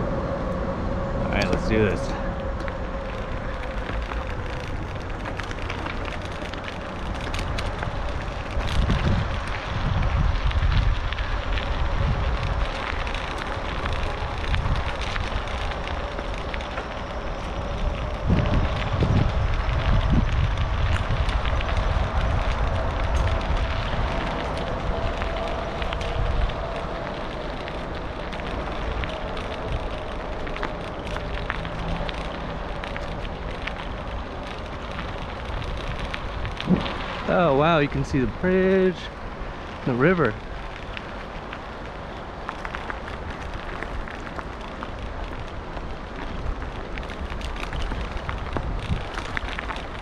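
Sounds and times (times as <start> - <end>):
bicycle tyres on gravel: 0.0 - 50.0
wind rumbling on microphone: 0.0 - 50.0.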